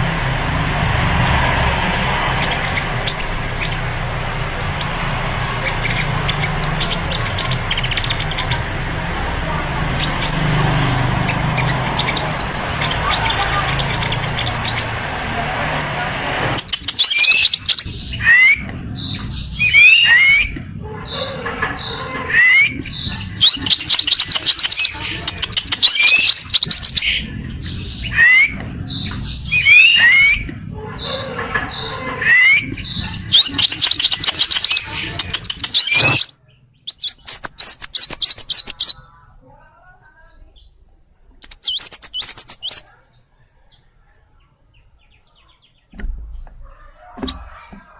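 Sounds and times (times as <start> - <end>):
small bird singing: 1.2 - 15.1, 16.6 - 47.6.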